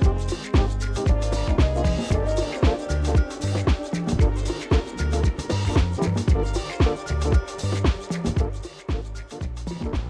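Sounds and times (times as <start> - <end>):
funky background music: 0.0 - 10.0.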